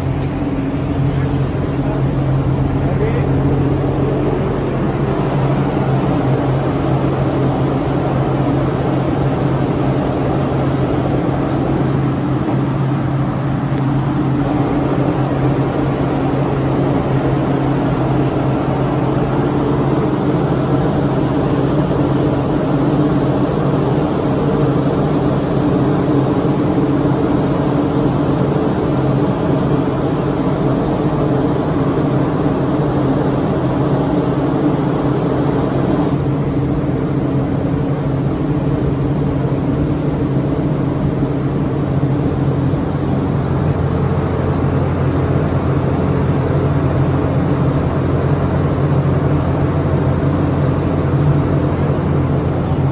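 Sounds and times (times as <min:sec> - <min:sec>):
hydraulic power unit humming: 0:00.0 - 0:52.9.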